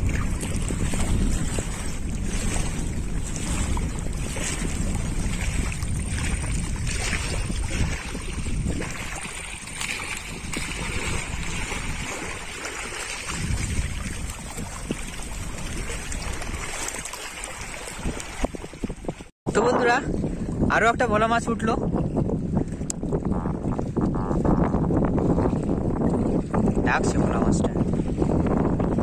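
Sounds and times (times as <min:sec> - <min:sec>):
choppy river water: 0:00.0 - 0:29.0
wind gusting on microphone: 0:00.0 - 0:29.0.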